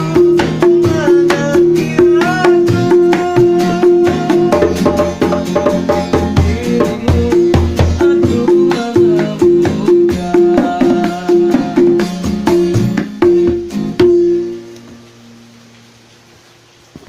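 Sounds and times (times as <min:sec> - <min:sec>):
hand drum strokes: 0:00.0 - 0:15.1
melodic instrument: 0:00.0 - 0:15.9.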